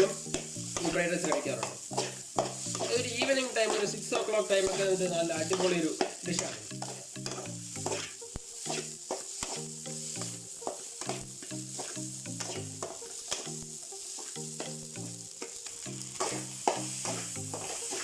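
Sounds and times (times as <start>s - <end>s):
spatula scraping a pan: 0.0s - 14.4s, 15.4s - 18.0s
background music: 0.0s - 18.0s
rice sizzling in a hot pan: 0.0s - 18.0s.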